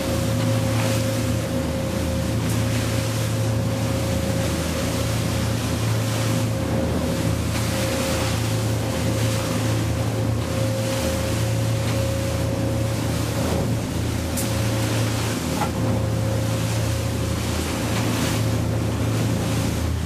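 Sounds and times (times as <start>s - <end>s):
motorboat engines droning: 0.0s - 20.0s
water splashing against hull: 0.0s - 20.0s.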